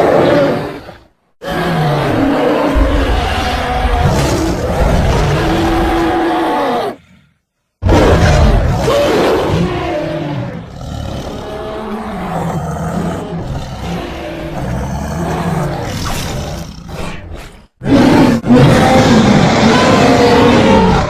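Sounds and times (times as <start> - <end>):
roaring and growling: 0.0 - 21.0.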